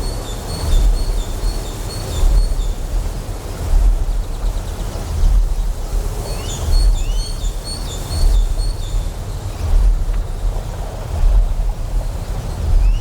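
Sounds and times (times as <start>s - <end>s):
deep generator hum: 0.0s - 13.0s.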